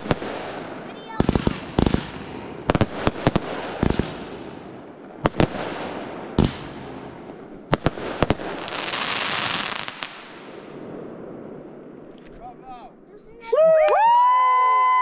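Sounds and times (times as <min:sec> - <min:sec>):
fireworks bangs: 0:00.0 - 0:14.2.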